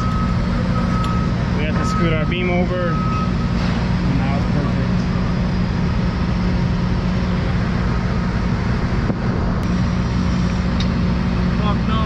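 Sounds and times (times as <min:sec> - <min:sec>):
engine droning steadily: 0:00.0 - 0:12.0.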